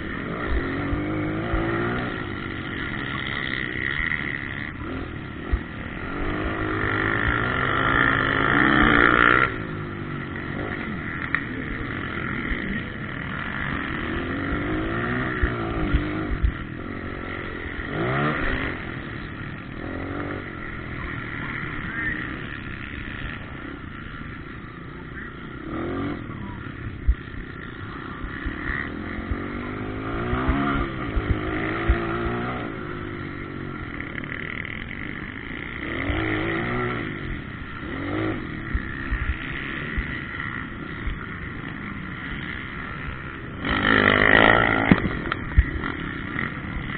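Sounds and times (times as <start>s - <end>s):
dirt bikes revving: 0.0s - 46.9s.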